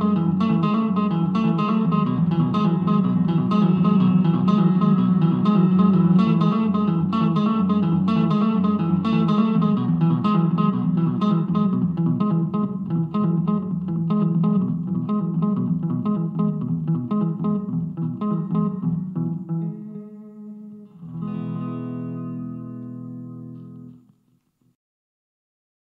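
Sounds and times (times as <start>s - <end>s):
plucked guitar notes: 0.0s - 24.2s.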